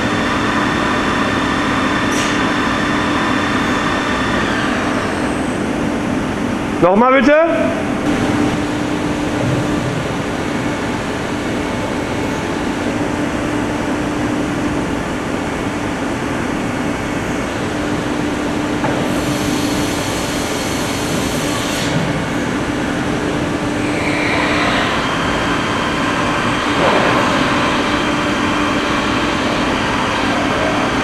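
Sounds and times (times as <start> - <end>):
milling machine running: 0.0 - 6.8, 7.8 - 31.0.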